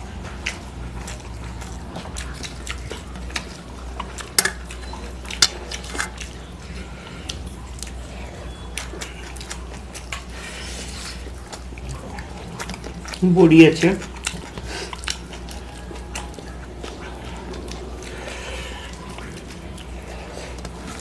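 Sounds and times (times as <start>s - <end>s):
eating with fingers: 0.0s - 21.0s
steady low hum: 0.0s - 21.0s.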